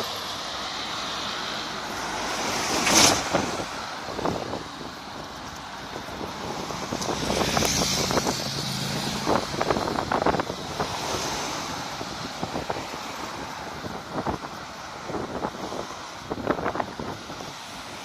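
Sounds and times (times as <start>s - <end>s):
engine hum: 0.0s - 17.5s
vehicles passing: 0.0s - 18.0s
wind on microphone: 2.5s - 17.9s.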